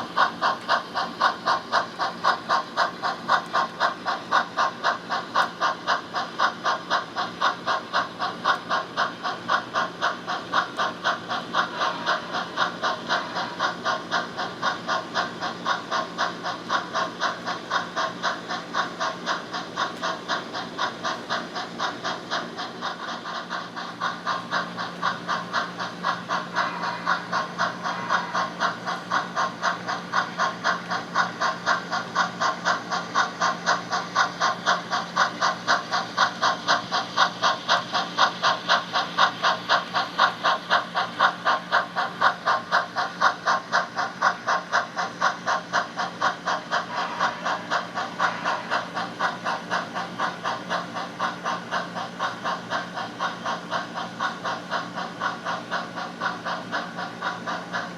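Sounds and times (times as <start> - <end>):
model locomotive exhaust chuffs: 0.0 - 57.9.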